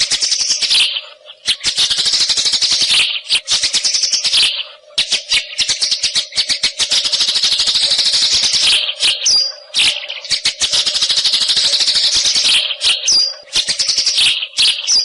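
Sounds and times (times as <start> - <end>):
bird singing rattling chatter: 0.0 - 15.0.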